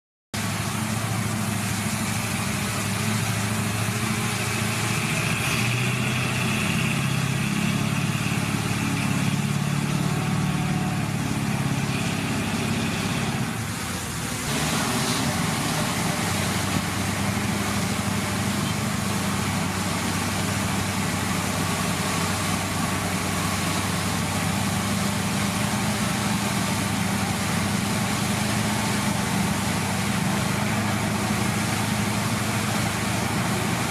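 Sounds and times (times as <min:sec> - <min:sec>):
heavy diesel engine running: 0:00.3 - 0:33.9.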